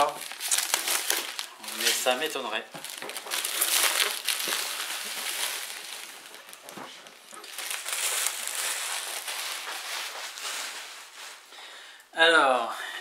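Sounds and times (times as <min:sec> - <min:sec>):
packaging rustling and crinkling: 0:00.0 - 0:11.6.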